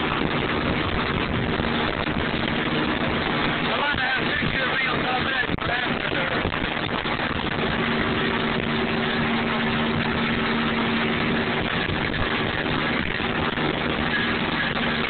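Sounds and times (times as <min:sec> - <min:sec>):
boat engine idling: 0:00.0 - 0:15.0
water noise: 0:00.0 - 0:15.0
wind noise: 0:00.0 - 0:15.0.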